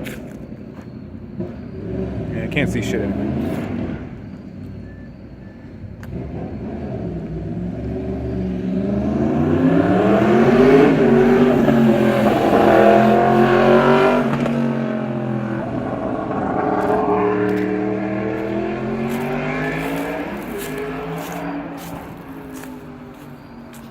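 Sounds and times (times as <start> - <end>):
motorcycle engine revving: 1.4 - 4.6, 5.9 - 23.9.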